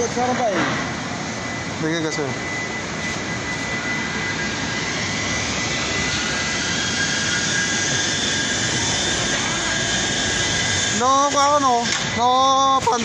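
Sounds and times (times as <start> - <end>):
faint high whining tones: 0.0 - 13.0
workshop machinery running: 0.0 - 13.0.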